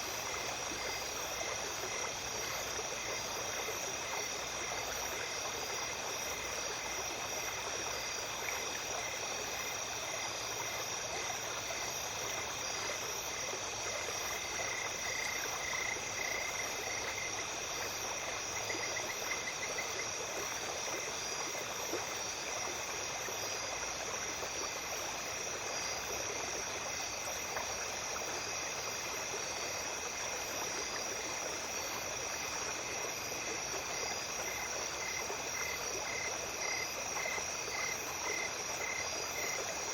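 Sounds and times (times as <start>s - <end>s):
night insects calling: 0.0s - 39.9s
small stream running: 0.0s - 39.9s.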